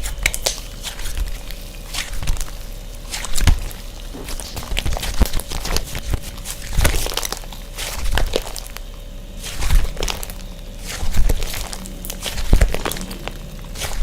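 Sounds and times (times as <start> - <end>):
slime squished by hand: 0.0 - 14.0.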